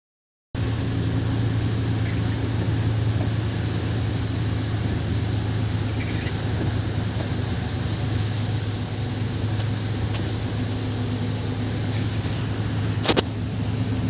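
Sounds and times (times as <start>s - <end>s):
road noise: 0.6s - 14.0s
truck diesel engine running: 0.6s - 14.0s.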